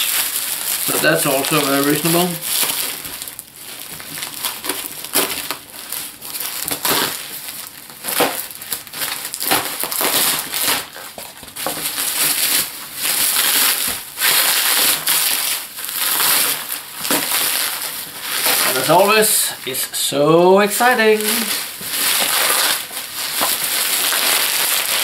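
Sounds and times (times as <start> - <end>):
bubble wrap crinkling: 0.0 - 25.0.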